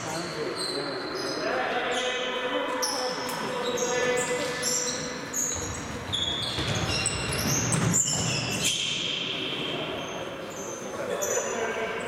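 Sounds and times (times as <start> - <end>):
shoe squeaks on hall floor: 0.0 - 12.0.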